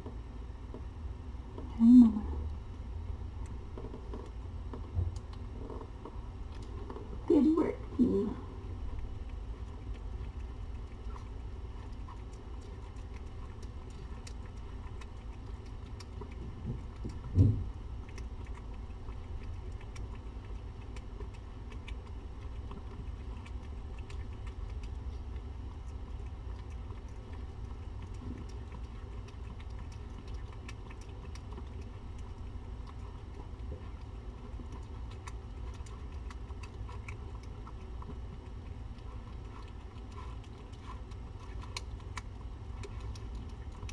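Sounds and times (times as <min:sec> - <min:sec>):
steady low hum: 0:00.0 - 0:43.9
cat chewing and licking: 0:02.3 - 0:43.9.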